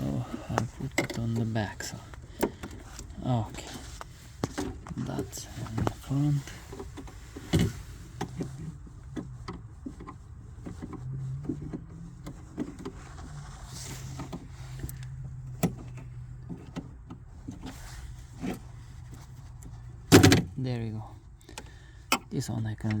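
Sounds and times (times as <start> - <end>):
clicks of car parts handled: 0.3 - 13.0, 14.1 - 17.8, 18.4 - 20.6, 21.3 - 22.3.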